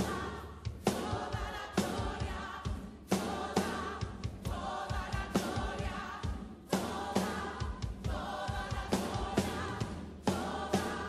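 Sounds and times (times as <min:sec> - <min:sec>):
choir singing worship song: 0:00.0 - 0:11.0.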